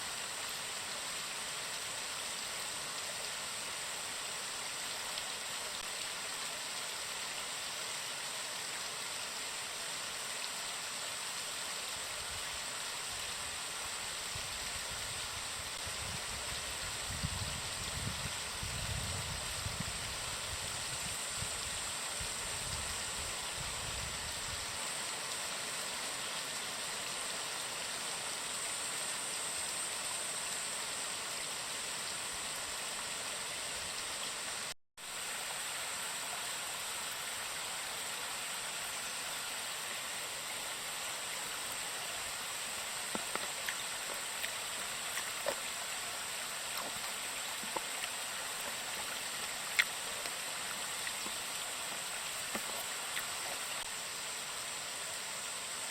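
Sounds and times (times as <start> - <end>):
waterfall and stream flowing: 0.0 - 55.9.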